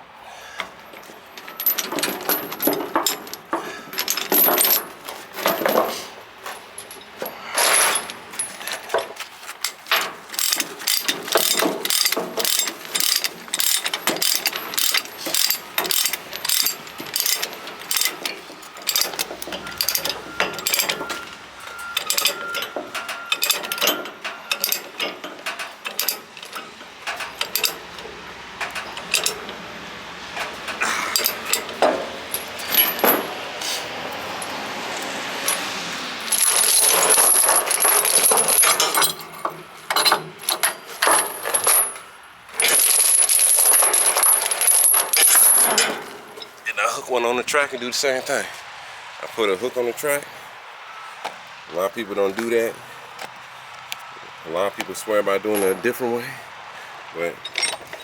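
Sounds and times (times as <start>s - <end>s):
steel chains clinking: 0.6s - 46.7s, 55.4s - 56.0s, 57.2s - 58.0s.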